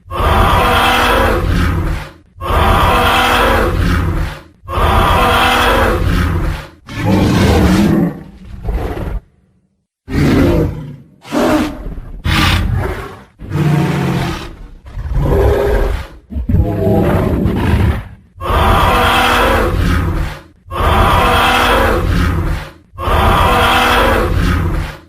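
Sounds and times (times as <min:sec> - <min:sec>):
deep dinosaur roars and growls: 0:00.0 - 0:09.4, 0:10.1 - 0:25.0.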